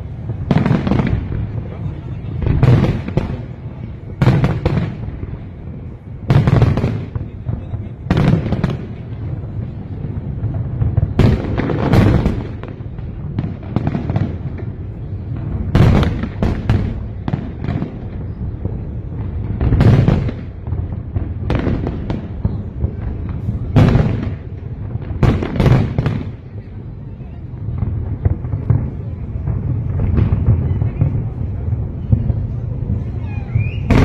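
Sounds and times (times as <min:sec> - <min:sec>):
fireworks exploding: 0:00.0 - 0:34.0
low rumbling echo: 0:00.0 - 0:34.0.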